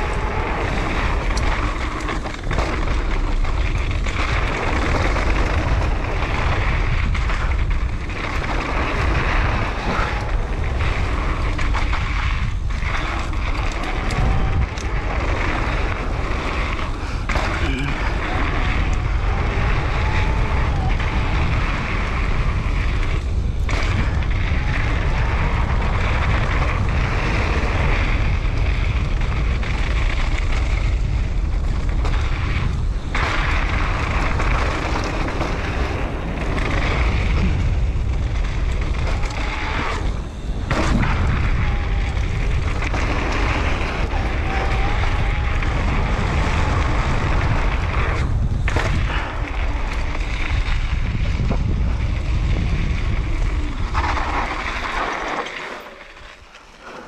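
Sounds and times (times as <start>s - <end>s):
bike tyres crunching over gravel: 0.0s - 57.0s
wind buffeting microphone: 0.0s - 57.0s.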